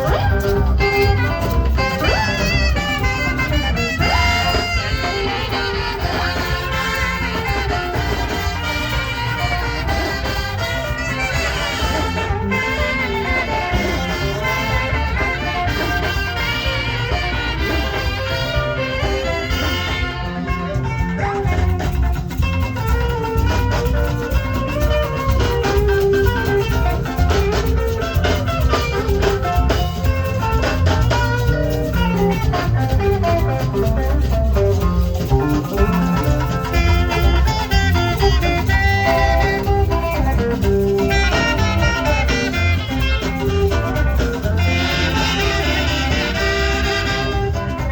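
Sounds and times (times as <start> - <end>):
backing track with steady beat: 0.0 - 47.9
saxophone melody: 0.0 - 47.9.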